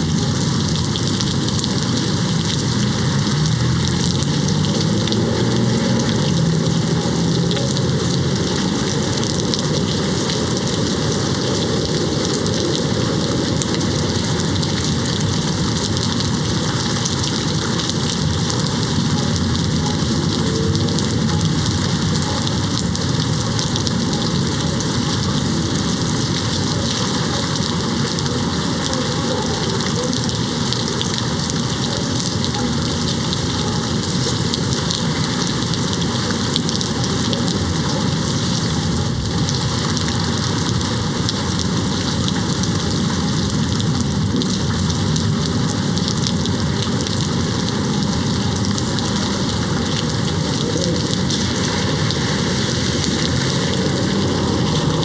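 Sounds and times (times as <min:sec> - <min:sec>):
heavy rain hitting a window: 0:00.0 - 0:55.0.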